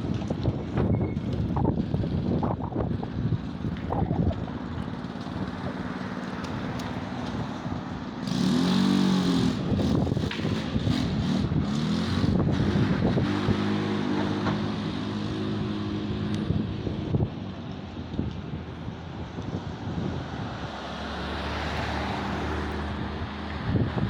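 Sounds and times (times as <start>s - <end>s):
motor vehicles passing: 0.0s - 24.0s
steady engine hum: 0.0s - 24.0s.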